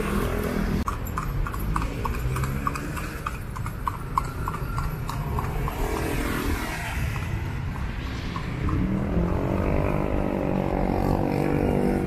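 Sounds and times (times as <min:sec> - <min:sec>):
horse hooves on pavement: 0:00.0 - 0:10.6.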